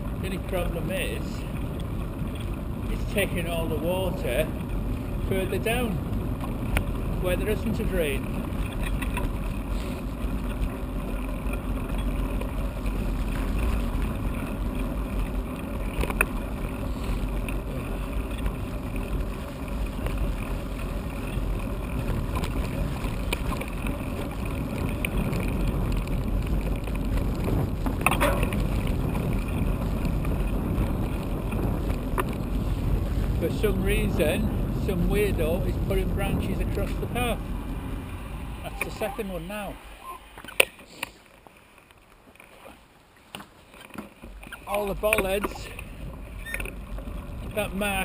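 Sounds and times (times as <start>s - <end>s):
wind on microphone: 0.0s - 40.3s
bicycle tyres rolling on tarmac: 0.0s - 48.0s.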